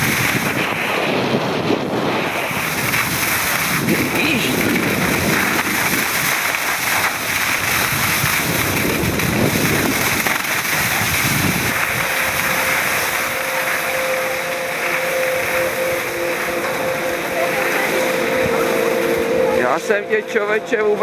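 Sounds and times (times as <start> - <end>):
skis sliding over snow: 0.0 - 21.0
wind buffeting microphone: 0.0 - 21.0.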